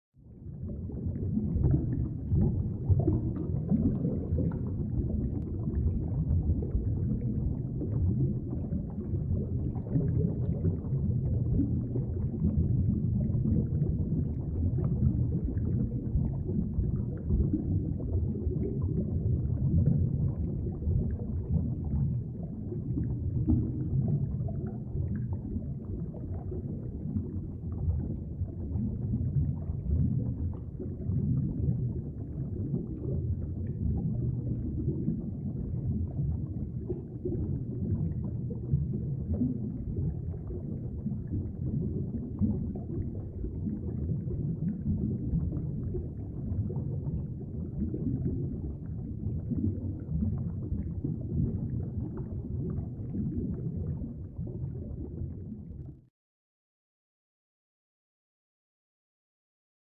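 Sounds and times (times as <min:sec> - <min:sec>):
underwater creek rumble: 0:00.2 - 0:56.1.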